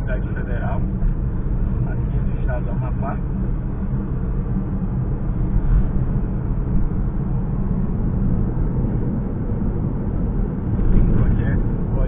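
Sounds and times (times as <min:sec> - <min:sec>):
vehicle driving on highway: 0:00.0 - 0:12.0.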